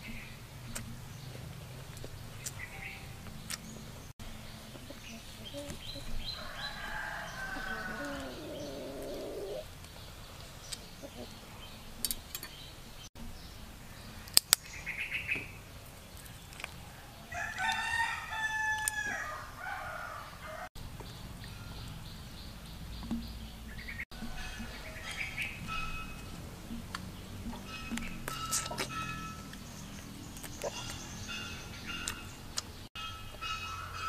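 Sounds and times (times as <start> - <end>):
bird calls: 0.0 - 17.9, 18.7 - 34.0.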